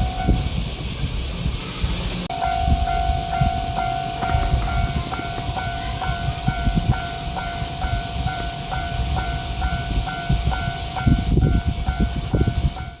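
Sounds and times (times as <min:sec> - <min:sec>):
railroad crossing bell ringing: 0:00.0 - 0:00.7, 0:02.3 - 0:13.0.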